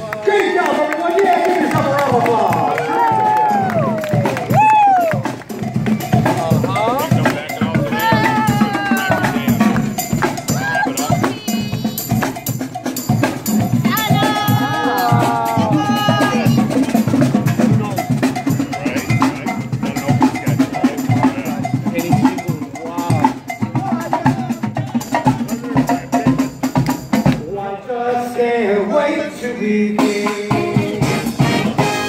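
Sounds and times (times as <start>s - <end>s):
drumming and percussion: 0.0s - 27.6s, 29.9s - 32.0s
brass marching band playing: 1.6s - 26.5s, 30.0s - 32.0s.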